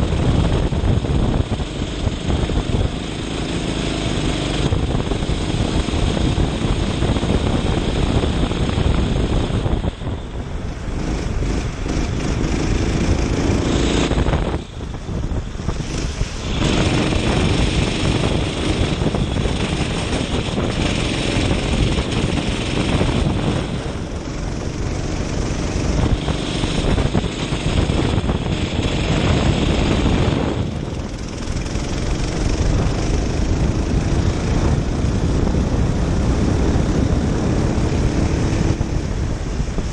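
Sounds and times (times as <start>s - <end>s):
kart engine at racing speed: 0.0s - 39.9s.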